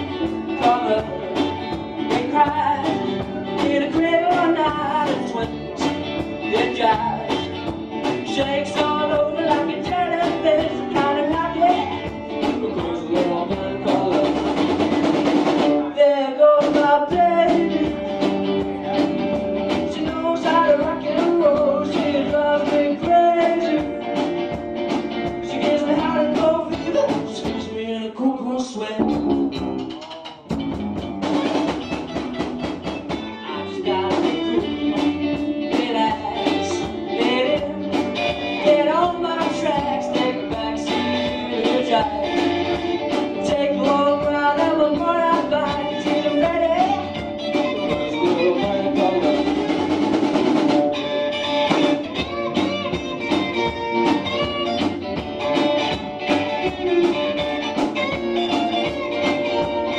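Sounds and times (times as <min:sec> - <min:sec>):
person singing into a microphone: 0:00.0 - 0:24.6, 0:25.2 - 0:30.2, 0:33.1 - 0:59.9
live rock band playing: 0:00.0 - 0:59.9.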